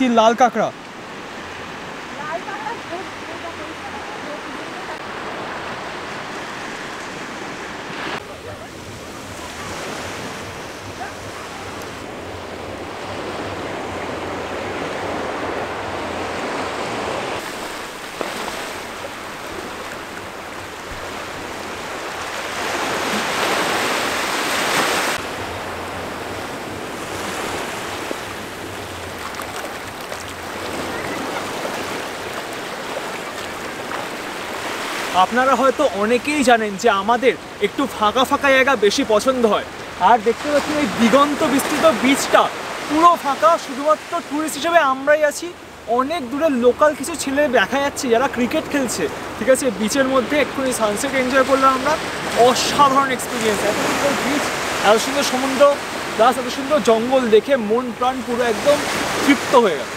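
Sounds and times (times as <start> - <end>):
sea surf washing onto beach: 0.0 - 59.9.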